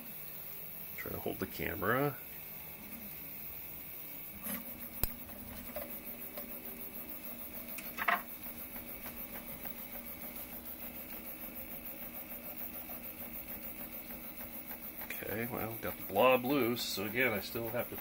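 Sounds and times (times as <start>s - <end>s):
printer motors and fans whirring: 0.0s - 18.0s.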